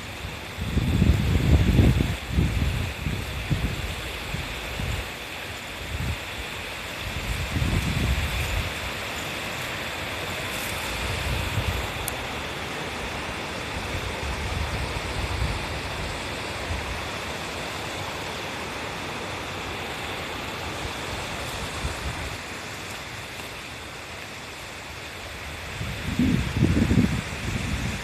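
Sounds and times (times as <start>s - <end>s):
wind rumble on microphone: 0.0s - 18.0s, 20.4s - 23.3s, 24.4s - 28.0s
stream rushing over rocks: 0.0s - 28.0s.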